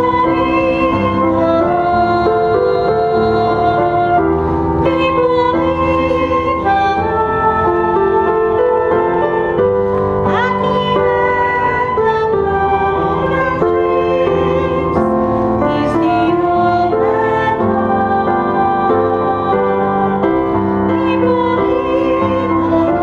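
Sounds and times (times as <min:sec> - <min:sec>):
flute melody: 0:00.0 - 0:23.0
hymn on digital piano: 0:00.0 - 0:23.0.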